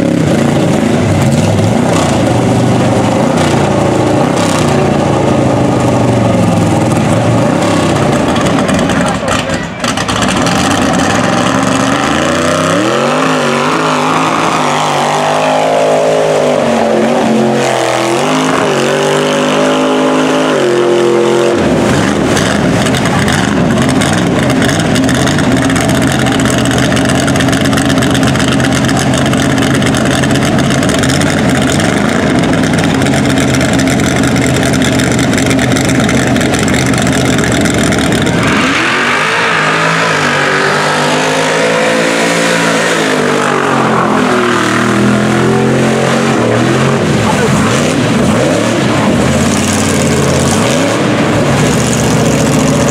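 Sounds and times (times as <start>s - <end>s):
tires churning mud: 0.0s - 52.9s
truck engines revving: 0.0s - 52.9s.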